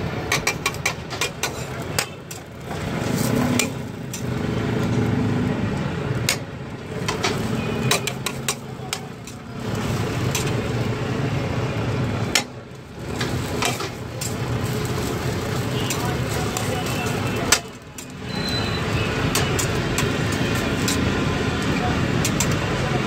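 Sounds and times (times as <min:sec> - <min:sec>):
metal spatula scraping griddle: 0:00.3 - 0:04.9, 0:06.9 - 0:11.0, 0:12.2 - 0:22.6.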